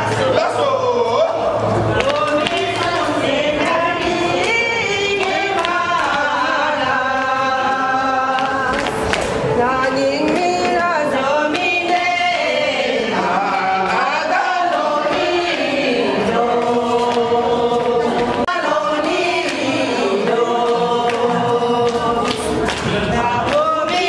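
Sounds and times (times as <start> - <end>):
group singing: 0.0 - 24.0.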